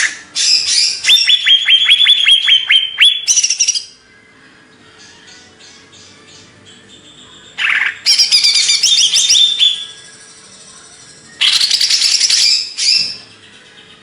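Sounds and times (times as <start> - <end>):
bird chirping: 0.0 - 4.0, 4.8 - 14.0.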